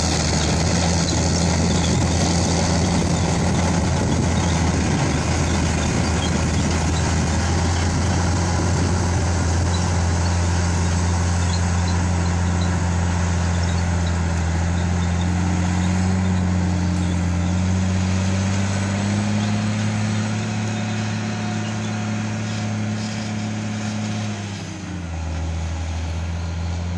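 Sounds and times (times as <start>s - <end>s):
tractor diesel engine droning: 0.0s - 26.9s.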